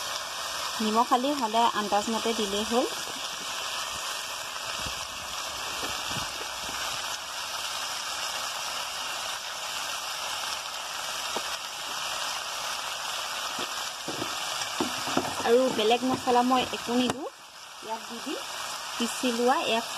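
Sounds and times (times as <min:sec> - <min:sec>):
vegetables sizzling in oil: 0:00.0 - 0:19.9.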